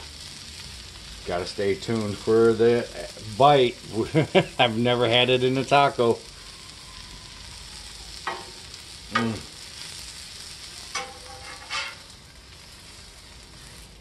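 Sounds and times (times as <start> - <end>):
taco sizzling in oil: 0.0 - 14.0.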